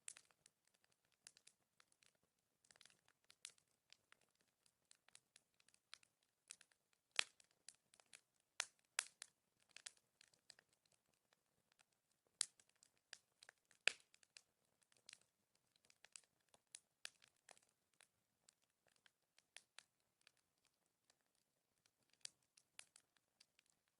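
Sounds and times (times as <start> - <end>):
bonfire crackling and popping: 0.0 - 23.8.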